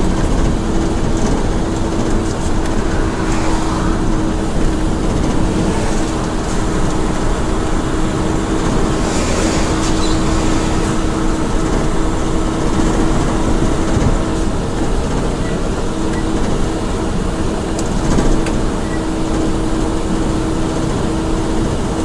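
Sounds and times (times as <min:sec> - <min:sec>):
road and tyre noise: 0:00.0 - 0:22.0
truck engine drone: 0:00.0 - 0:22.0.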